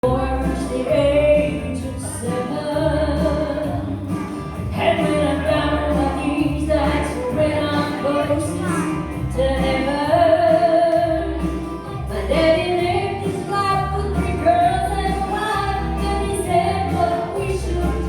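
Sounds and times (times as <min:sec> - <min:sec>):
woman singing gospel song: 0:00.0 - 0:04.1, 0:04.7 - 0:11.4, 0:12.0 - 0:18.0
band accompaniment with bass line: 0:00.0 - 0:18.0.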